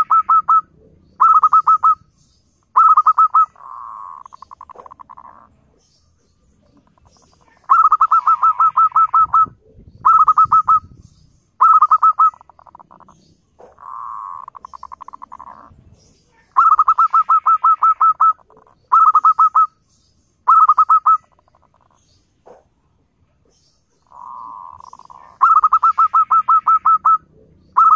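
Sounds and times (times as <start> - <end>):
dove cooing: 0.0 - 2.0, 2.7 - 5.6, 6.7 - 11.0, 11.6 - 15.7, 16.3 - 19.7, 20.5 - 22.7, 23.9 - 27.9.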